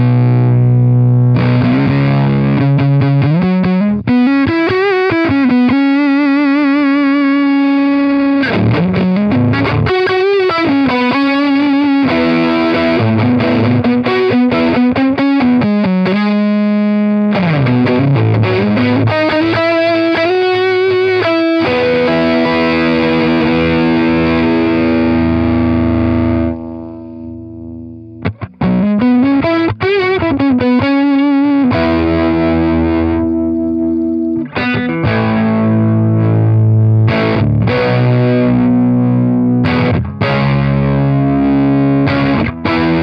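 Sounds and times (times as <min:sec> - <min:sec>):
distorted electric guitar: 0:00.0 - 0:43.0.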